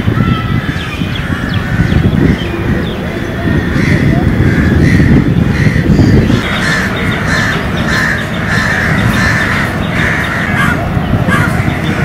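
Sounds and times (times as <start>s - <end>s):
steady low rumble: 0.0s - 12.0s
crows cawing: 0.4s - 2.5s, 3.4s - 12.0s.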